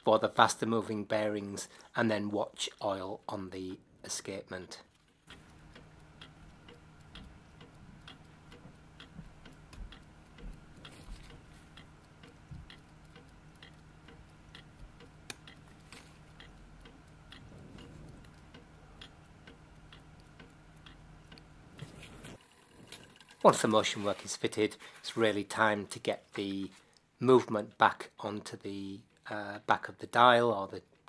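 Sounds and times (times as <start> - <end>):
clock ticking: 2.5 - 22.4, 23.4 - 30.4.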